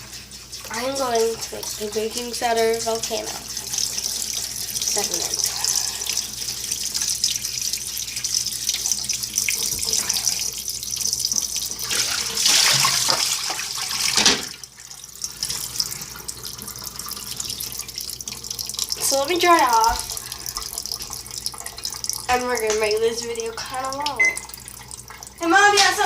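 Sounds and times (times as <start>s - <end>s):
tap water running into sink: 0.0s - 26.0s
water splashing: 0.0s - 26.0s.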